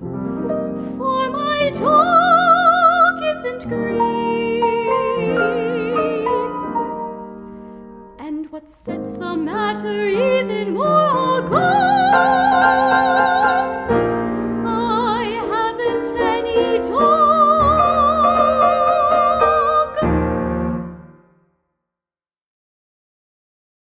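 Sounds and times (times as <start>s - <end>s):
piano accompaniment: 0.0s - 21.4s
woman singing classical song: 0.6s - 7.4s, 8.1s - 20.6s.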